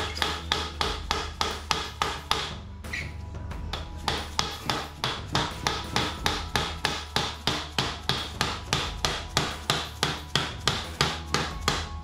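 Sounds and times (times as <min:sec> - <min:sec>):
hammer tapping: 0:00.0 - 0:02.6, 0:03.7 - 0:12.0.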